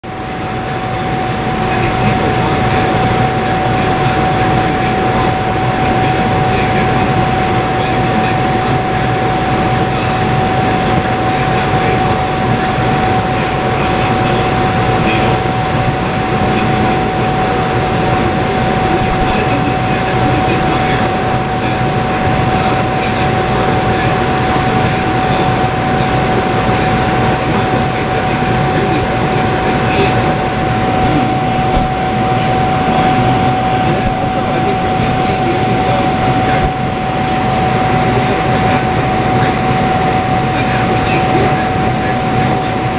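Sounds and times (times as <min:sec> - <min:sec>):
air conditioner blowing air: 0:00.0 - 0:42.9
constant whining tone: 0:00.0 - 0:42.9.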